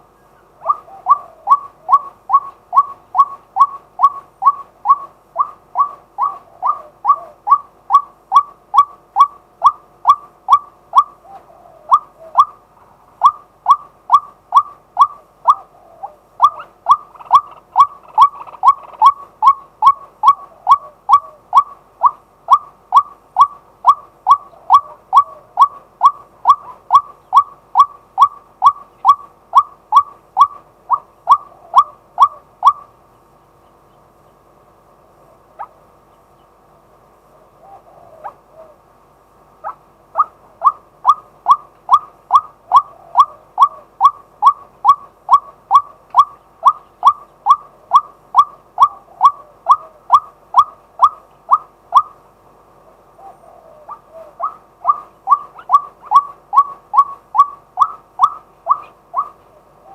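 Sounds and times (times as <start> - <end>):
waterhen calling: 0.0 - 34.4, 35.3 - 36.6, 37.4 - 38.9, 39.6 - 59.9.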